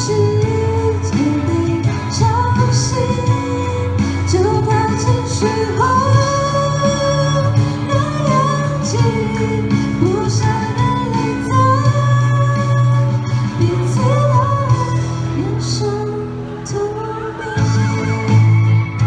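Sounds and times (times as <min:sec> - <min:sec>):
backing track with bass and drums: 0:00.0 - 0:19.0
woman singing pop ballad: 0:00.0 - 0:19.0.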